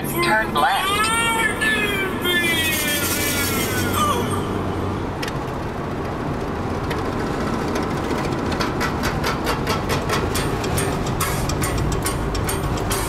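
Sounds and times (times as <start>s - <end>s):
car cabin road and engine noise: 0.0s - 13.0s.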